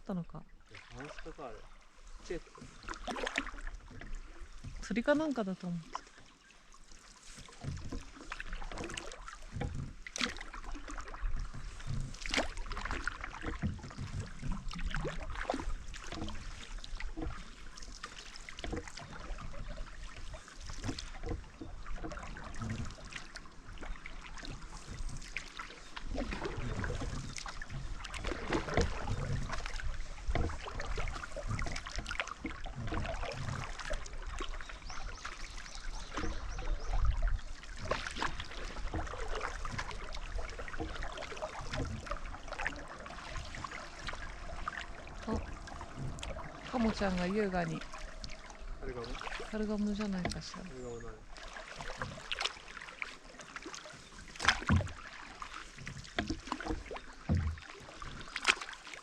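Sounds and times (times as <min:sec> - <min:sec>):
canoe paddles pulling through water: 0:00.0 - 0:59.0
water splashes and drips: 0:00.6 - 0:59.0.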